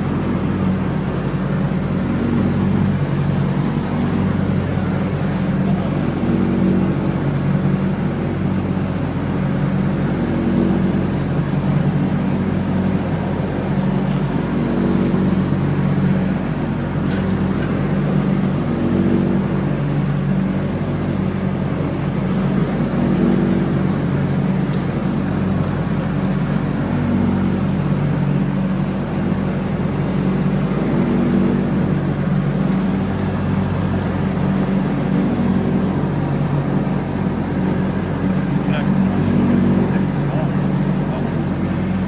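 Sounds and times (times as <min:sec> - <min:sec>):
riding lawn mower engine running: 0:00.0 - 0:42.0.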